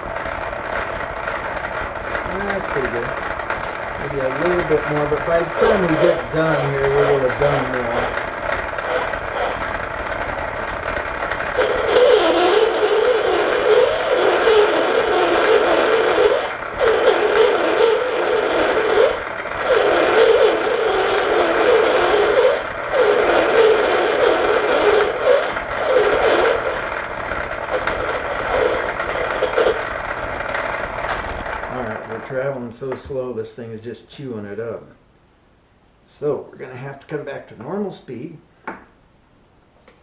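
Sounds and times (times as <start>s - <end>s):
metal lathe cutting: 0.0s - 32.6s.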